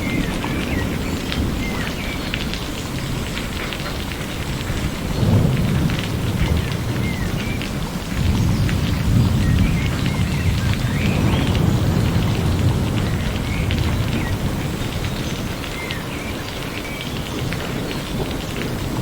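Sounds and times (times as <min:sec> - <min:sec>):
steady rain falling: 0:00.0 - 0:19.0
thunder rumbling: 0:00.0 - 0:19.0.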